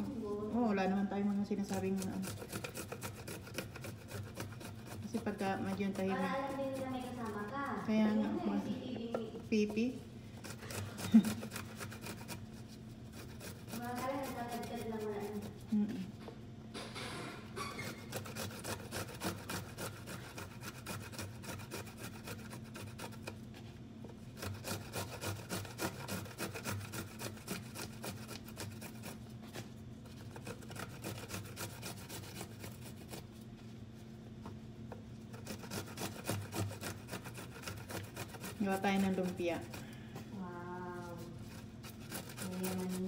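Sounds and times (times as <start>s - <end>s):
vegetables grated on metal grater: 0.0s - 16.1s, 17.6s - 23.4s, 24.1s - 33.4s, 35.2s - 43.0s.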